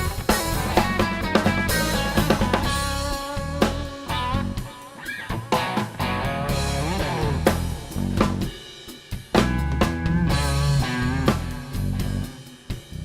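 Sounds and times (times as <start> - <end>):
rock music with guitar: 0.0 - 13.0.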